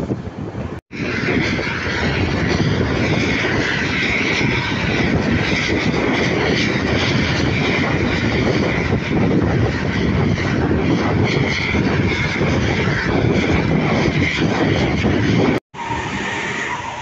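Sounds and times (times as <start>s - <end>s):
vehicle engine drone: 0.0s - 17.0s
wind noise: 0.0s - 17.0s.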